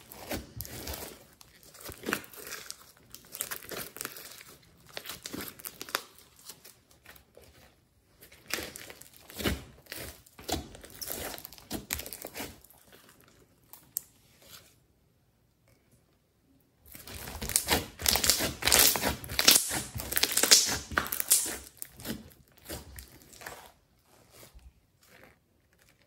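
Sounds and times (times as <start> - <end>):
slime crackling and squelching: 0.0 - 14.8, 16.8 - 26.0.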